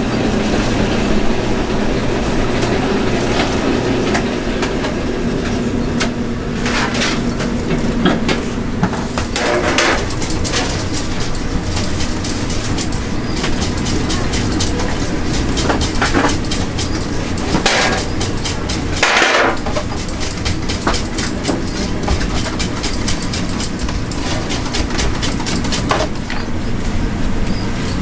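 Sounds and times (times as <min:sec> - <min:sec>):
busy clatter of clicks and knocks: 0:02.5 - 0:27.0.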